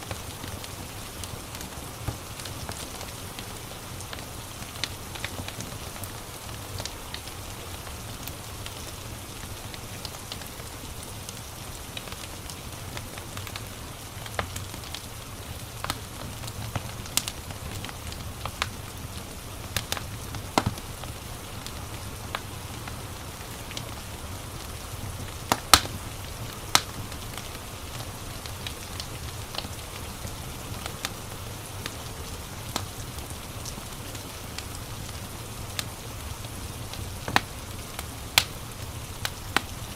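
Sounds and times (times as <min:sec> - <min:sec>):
steady rain hiss: 0:00.0 - 0:39.9
wood fire crackling and popping: 0:00.0 - 0:39.9.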